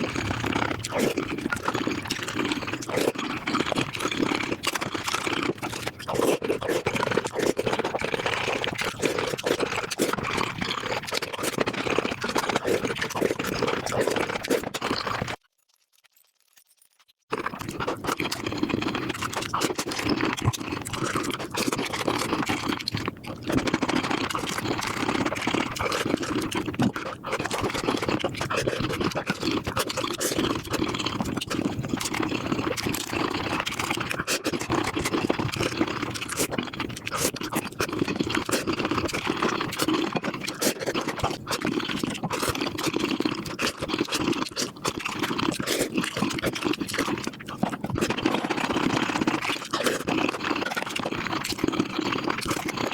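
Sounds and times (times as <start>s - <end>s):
fast chewing and smacking: 0.0s - 52.9s.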